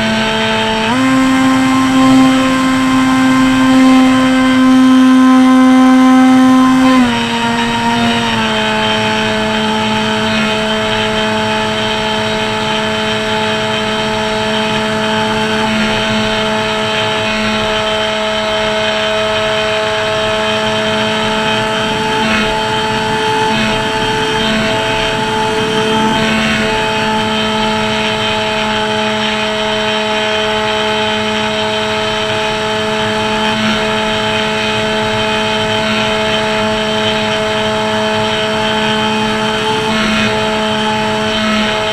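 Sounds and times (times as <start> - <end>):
propeller motor drone: 0.0 - 41.9.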